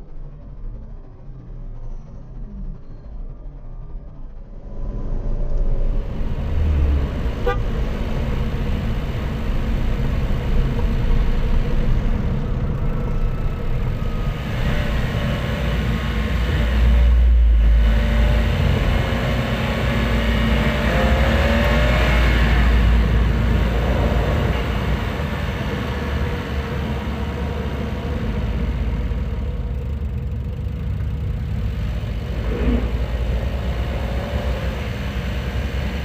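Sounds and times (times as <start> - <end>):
car engine running: 0.0 - 36.0
road noise: 2.1 - 36.0.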